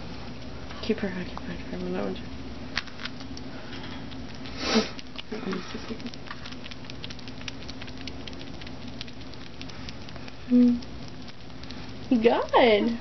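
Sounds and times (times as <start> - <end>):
small animal chewing clicks: 0.3 - 2.2, 2.8 - 13.0.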